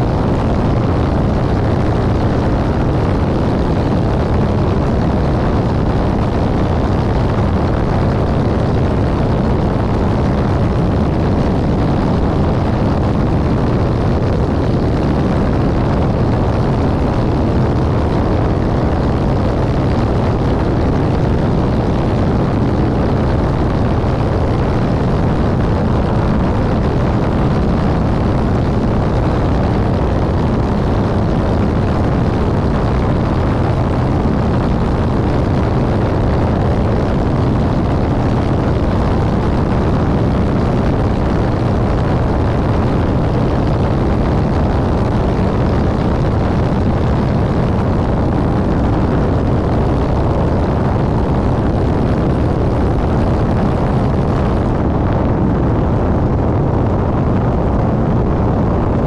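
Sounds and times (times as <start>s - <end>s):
aircraft piston engine drone: 0.0s - 55.0s
loud wind rush: 0.0s - 59.0s.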